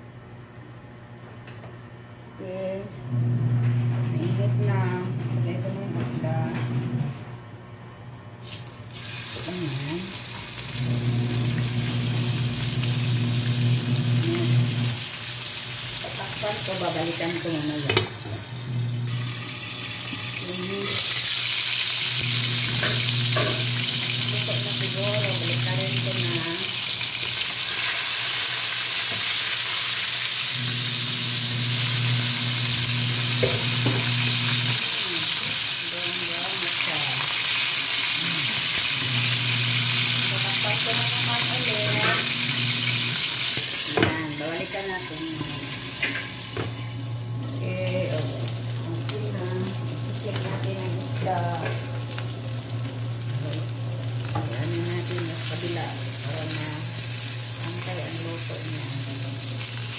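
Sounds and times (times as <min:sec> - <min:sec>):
fish sizzling in oil: 0:08.4 - 0:59.9.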